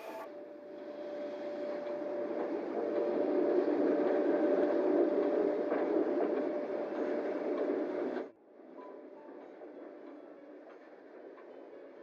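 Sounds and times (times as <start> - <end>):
steam train rolling: 0.0 - 12.0.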